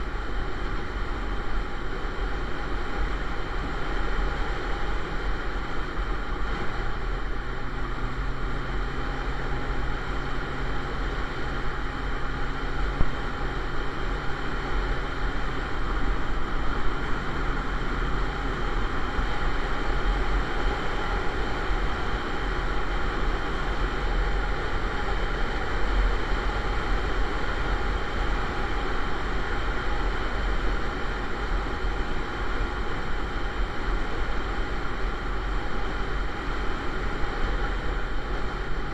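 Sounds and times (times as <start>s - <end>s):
wind rush and road noise: 0.0s - 38.9s.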